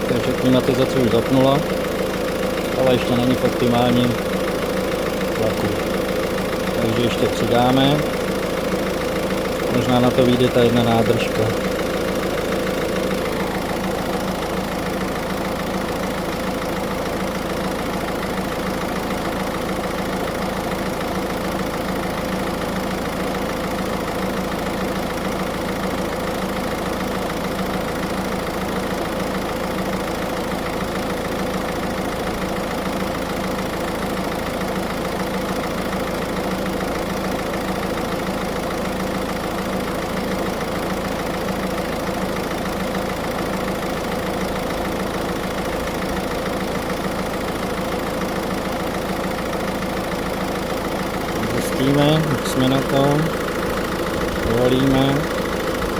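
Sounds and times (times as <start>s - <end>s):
air-conditioning compressor running: 0.0s - 55.9s
car engine idling: 0.0s - 55.9s.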